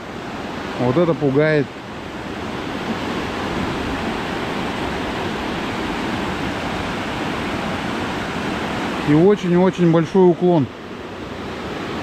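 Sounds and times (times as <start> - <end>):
river water rushing through rapid: 0.0 - 12.0.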